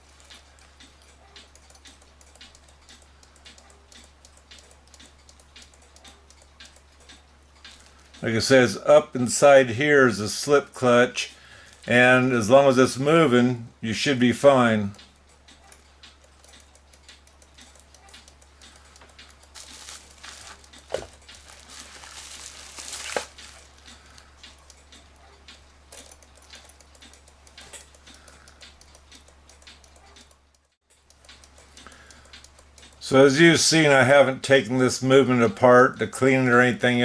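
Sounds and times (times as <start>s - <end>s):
clock ticking faintly: 0.0s - 37.0s
low steady hum: 0.0s - 37.0s.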